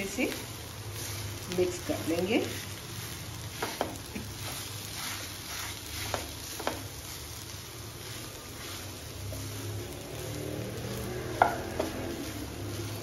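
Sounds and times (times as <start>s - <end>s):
vegetables sizzling in a pan: 0.0s - 13.0s
spatula scraping a pan: 2.4s - 13.0s.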